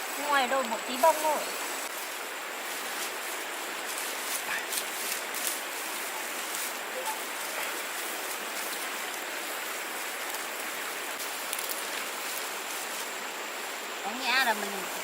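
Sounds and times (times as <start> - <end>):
faint crackles: 0.0 - 15.0.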